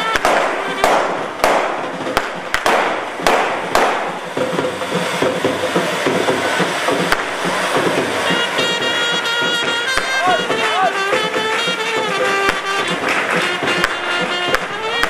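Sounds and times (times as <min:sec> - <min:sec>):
firecracker cracks: 0:00.0 - 0:15.0
fountain fireworks hissing: 0:00.0 - 0:15.0.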